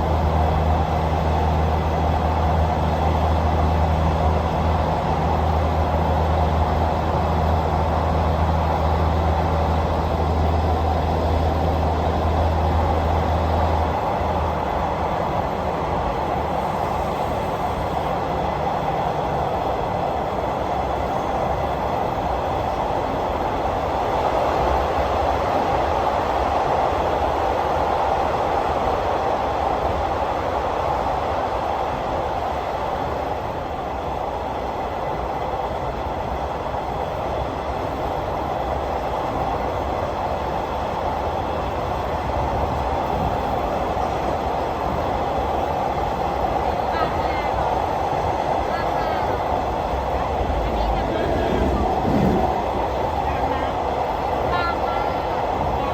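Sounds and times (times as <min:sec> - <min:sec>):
train rumbling on rails: 0:00.0 - 0:55.9.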